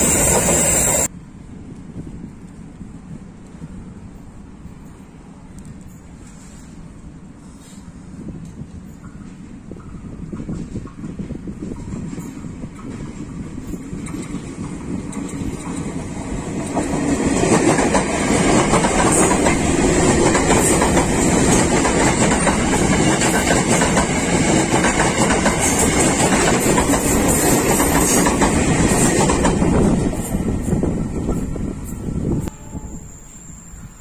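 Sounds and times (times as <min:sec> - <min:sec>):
electric train passing: 0:00.0 - 0:34.0.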